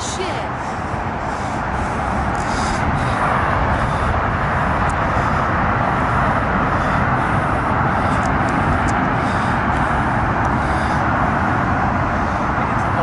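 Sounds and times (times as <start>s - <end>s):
distant traffic roar: 0.0s - 13.0s.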